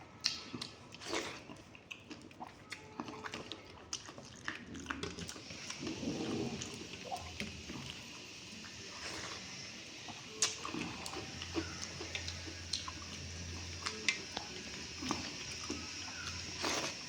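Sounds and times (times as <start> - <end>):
person eating with wet smacks: 0.2 - 7.9, 10.1 - 17.0.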